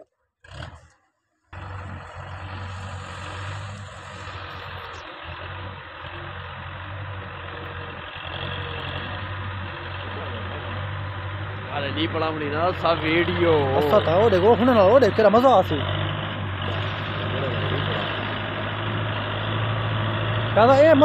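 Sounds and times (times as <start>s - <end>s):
diesel tractor engine running: 1.5s - 21.0s.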